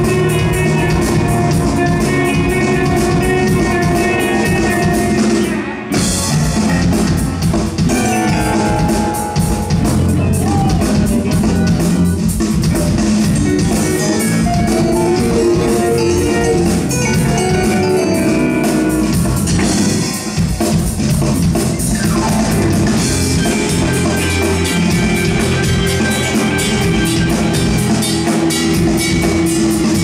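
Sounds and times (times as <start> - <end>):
bass guitar: 0.0 - 30.0
distorted electric guitars: 0.0 - 30.0
drum kit: 0.0 - 30.0.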